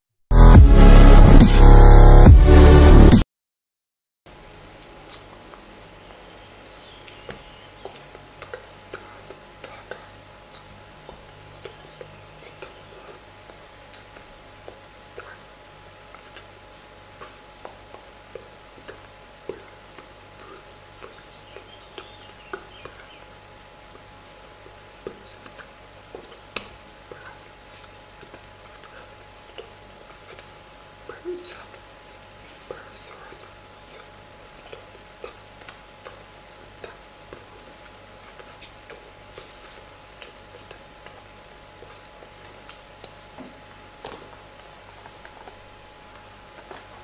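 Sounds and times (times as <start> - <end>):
steady electrical hum and hiss: 4.3 - 47.0.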